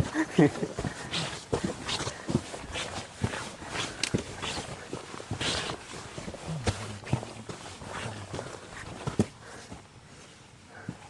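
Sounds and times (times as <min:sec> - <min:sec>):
footsteps on forest trail: 0:00.0 - 0:11.0.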